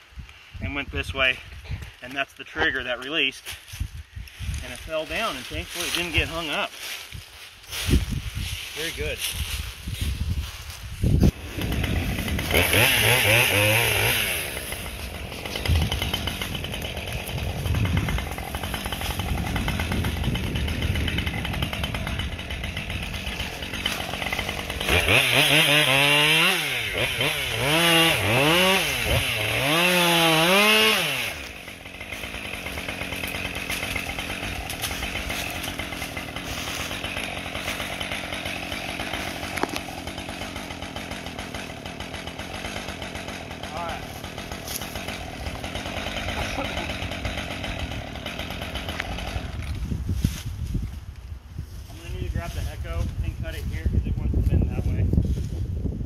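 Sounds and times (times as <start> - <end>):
chainsaw running and revving: 4.2 - 55.2.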